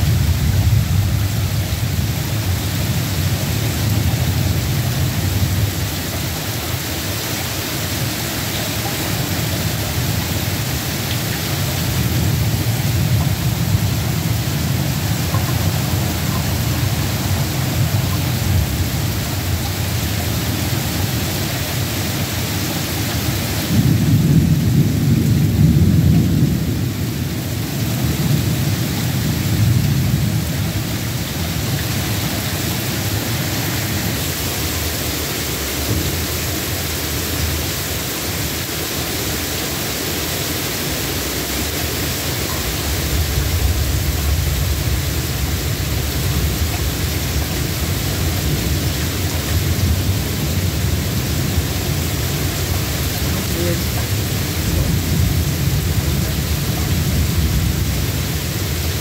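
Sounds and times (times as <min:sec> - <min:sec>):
thunder rumbling: 0:00.0 - 0:38.5, 0:41.1 - 0:59.0
heavy rain: 0:00.0 - 0:59.0.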